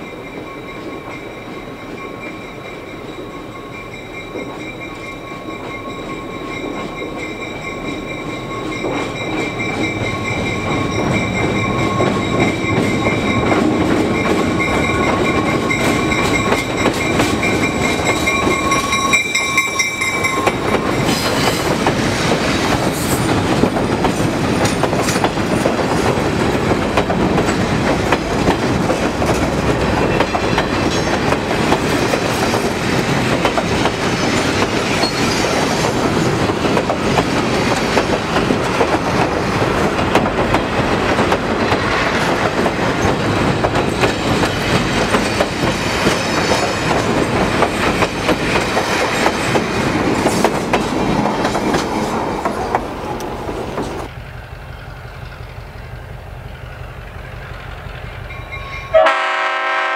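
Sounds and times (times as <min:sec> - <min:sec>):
train wheels clicking on rail joints: 0:00.0 - 0:59.3
diesel locomotive whining: 0:00.0 - 0:59.9.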